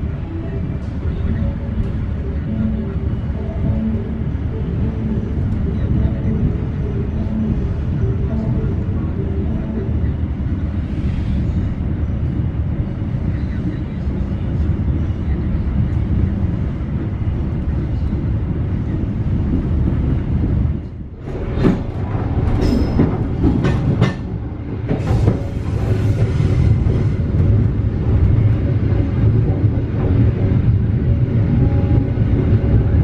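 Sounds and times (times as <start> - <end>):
train rumble inside carriage: 0.0 - 33.0.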